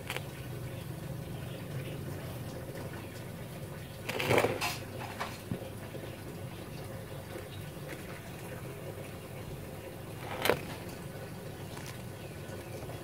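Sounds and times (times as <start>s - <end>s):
husk and charcoal rustling: 2.4s - 13.0s.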